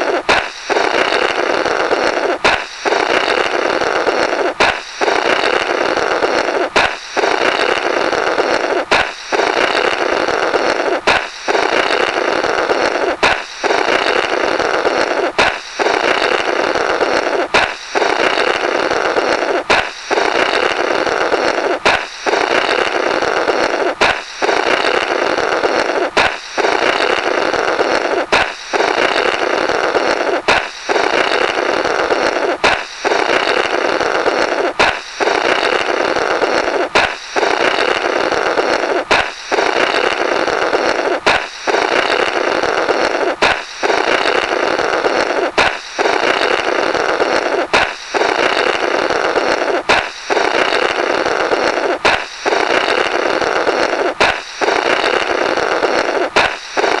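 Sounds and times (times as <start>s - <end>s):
balloon popping: 0.0s - 57.0s
raspy blowing through balloon: 0.0s - 57.0s.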